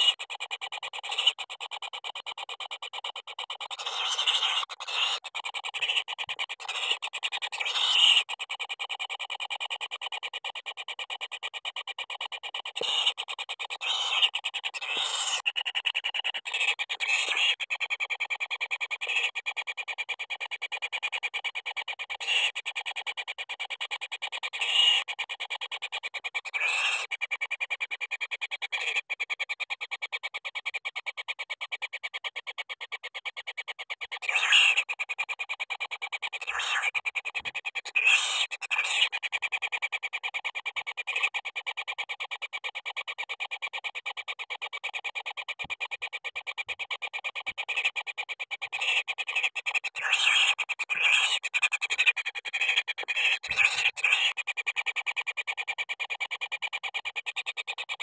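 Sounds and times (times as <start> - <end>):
animal call with rasping pulses: 0.0 - 58.0.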